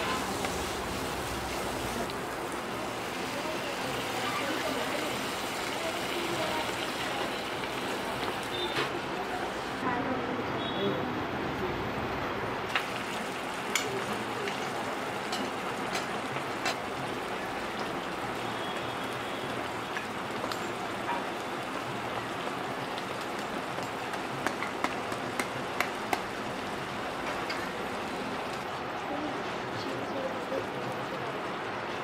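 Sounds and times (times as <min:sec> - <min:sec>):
food sizzling on a griddle: 0:00.0 - 0:09.8, 0:12.7 - 0:28.7.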